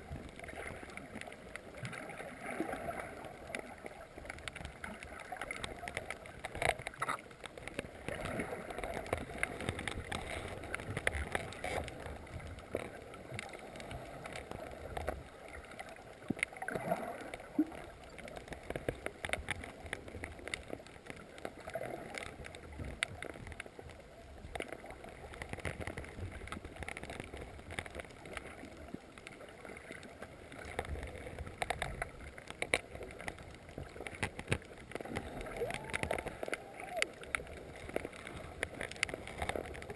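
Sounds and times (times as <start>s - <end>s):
reef clicks and crackles: 0.0s - 39.9s.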